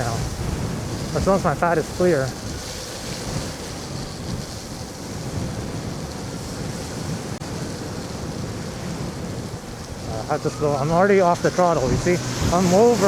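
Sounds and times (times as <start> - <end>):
tyre noise on wet road: 0.0 - 13.0
wind over microphone: 0.0 - 13.0.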